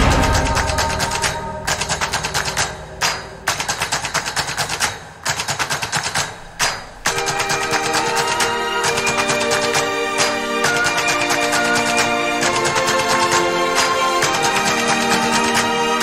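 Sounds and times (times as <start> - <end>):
fast repeated drum hits: 0.0 - 16.0.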